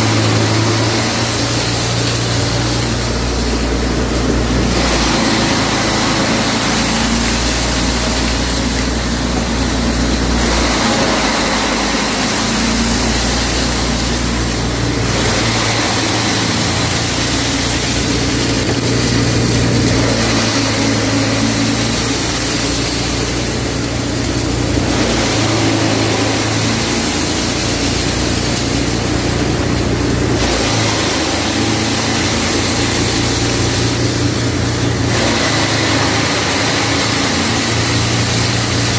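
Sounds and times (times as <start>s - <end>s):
steady motor hum: 0.0s - 38.9s.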